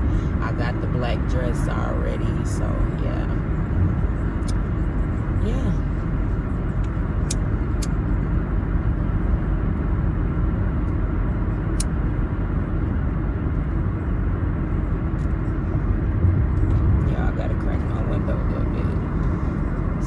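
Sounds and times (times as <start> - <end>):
car cabin road and engine rumble: 0.0 - 20.0.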